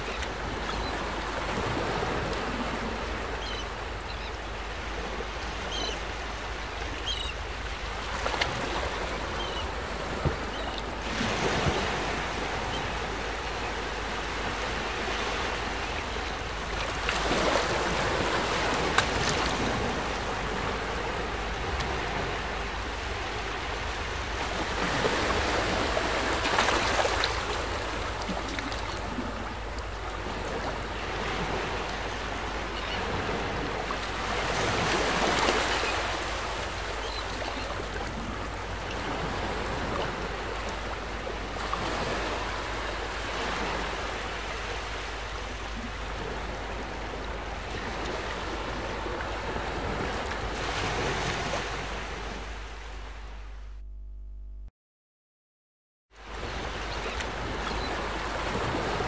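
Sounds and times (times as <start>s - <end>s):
sea waves breaking: 0.0s - 53.5s, 56.2s - 59.0s.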